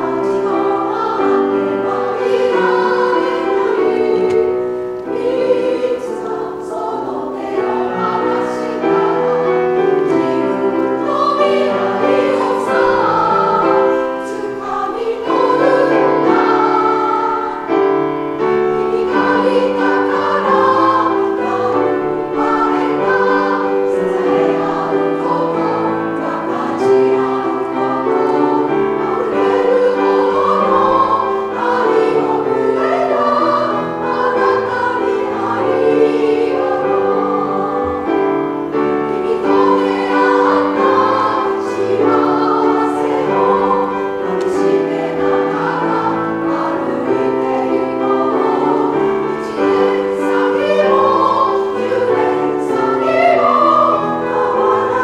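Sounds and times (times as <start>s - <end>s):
piano accompaniment: 0.0s - 55.0s
women's choir singing: 0.0s - 55.0s.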